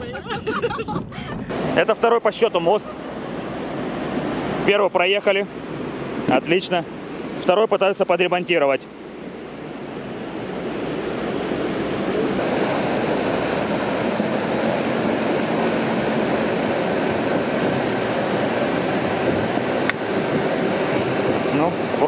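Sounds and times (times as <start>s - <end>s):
rushing river water: 1.5s - 22.0s.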